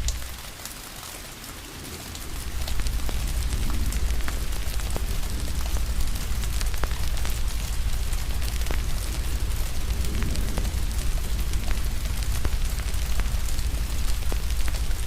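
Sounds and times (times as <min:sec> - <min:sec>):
rain hiss: 0:00.0 - 0:15.0
low rumble: 0:02.1 - 0:15.0
wood fire crackling: 0:02.1 - 0:15.0.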